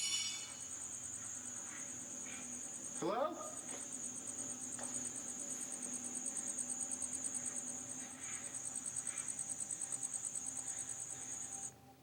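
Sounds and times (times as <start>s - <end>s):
crickets trilling: 0.0s - 11.8s.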